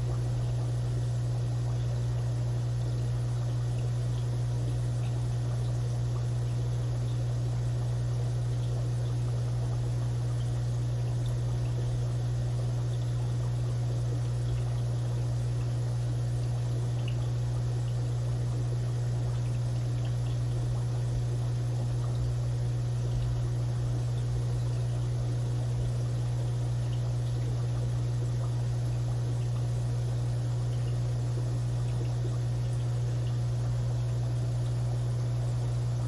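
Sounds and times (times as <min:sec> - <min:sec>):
aquarium filter hum: 0:00.0 - 0:36.0
water trickling: 0:00.0 - 0:36.0.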